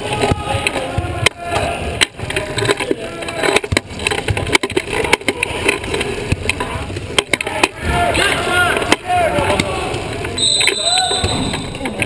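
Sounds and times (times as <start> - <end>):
wheelchair wheels rumbling: 0.0 - 10.4
sharp knocks and clacks: 0.2 - 12.0.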